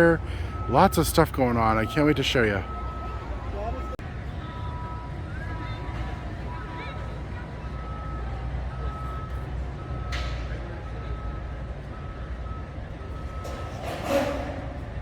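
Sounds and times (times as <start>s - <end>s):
backup alarm beeping: 0.0s - 15.0s
low engine rumble: 0.0s - 15.0s.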